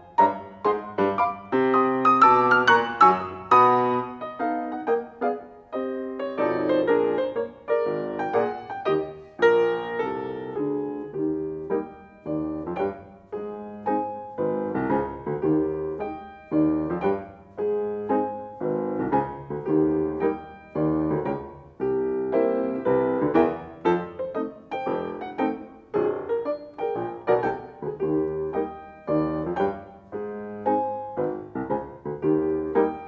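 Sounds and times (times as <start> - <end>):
solo grand piano: 0.0 - 33.0.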